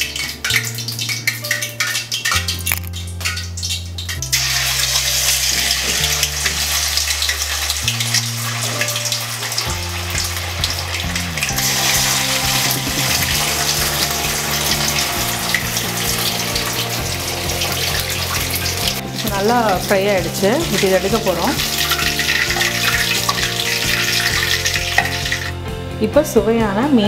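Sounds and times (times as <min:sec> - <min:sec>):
fish sizzling in hot oil: 0:00.0 - 0:25.6
background music with bass: 0:00.0 - 0:27.0.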